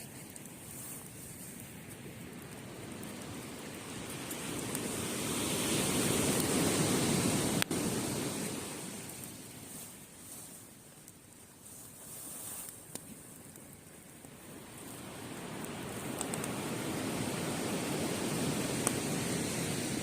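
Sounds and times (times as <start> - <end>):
sea waves surging onto beach: 0.0 - 20.0.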